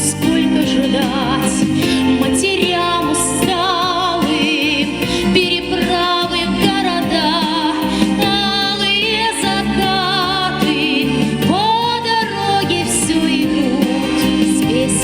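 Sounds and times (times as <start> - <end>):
instrumental backing music: 0.0 - 15.0
woman singing with vibrato: 0.0 - 15.0.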